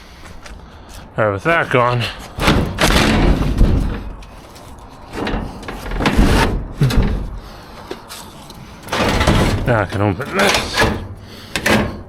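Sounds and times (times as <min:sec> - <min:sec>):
scrap scraping and rattling: 0:02.0 - 0:12.0.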